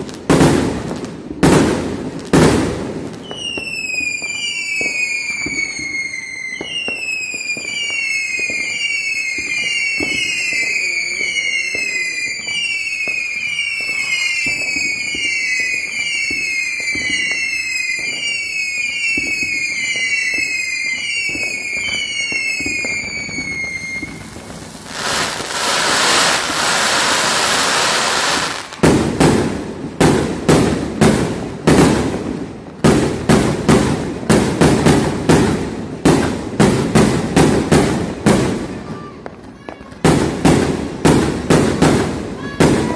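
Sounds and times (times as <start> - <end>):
fireworks loud hissing: 0.0 - 42.9
fireworks sharp bangs: 0.0 - 42.9
fireworks falling whistle: 3.2 - 42.9.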